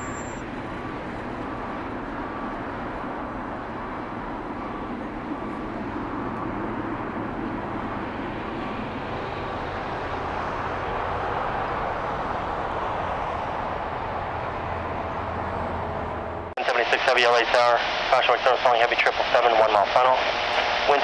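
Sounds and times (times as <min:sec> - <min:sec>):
jet engine rush: 0:00.0 - 0:21.0.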